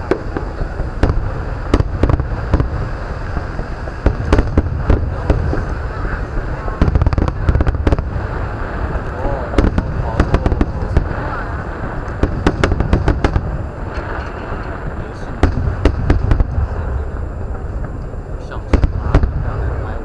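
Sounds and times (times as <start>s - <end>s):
fireworks cracking and booming: 0.0s - 20.0s
low rumble: 0.0s - 20.0s.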